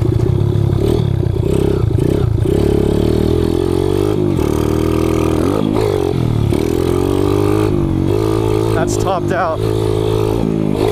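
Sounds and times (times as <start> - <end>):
pit bike engine revving: 0.0 - 10.9.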